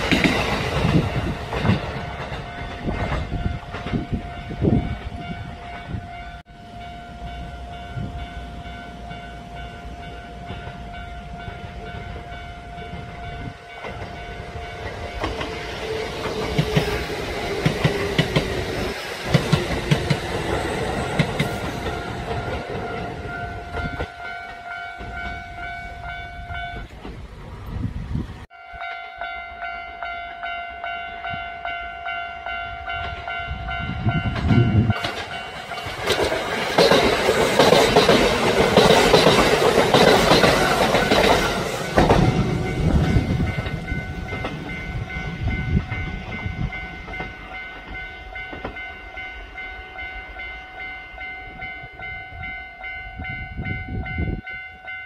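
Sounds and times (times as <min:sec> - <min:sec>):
train running on rails: 0:00.0 - 0:55.0.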